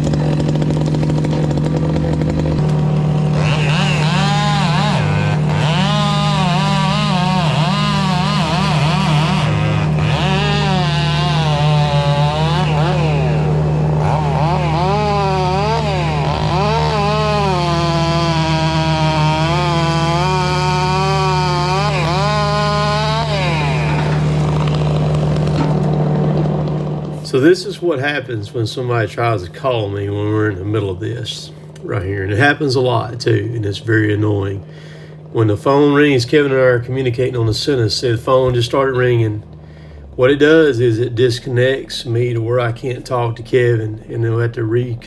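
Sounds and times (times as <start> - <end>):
chainsaw cutting: 0.0 - 45.0
excavator engine with whine: 0.0 - 45.0.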